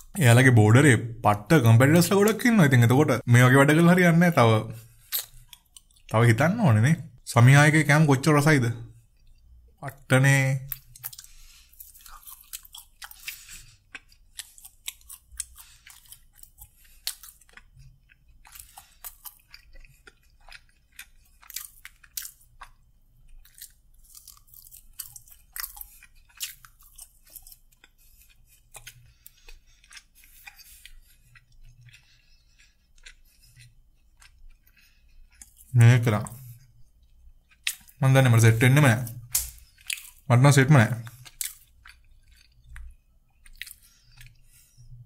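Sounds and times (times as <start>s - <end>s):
chewing crispy fried chicken: 3.7s - 6.2s, 9.0s - 45.0s.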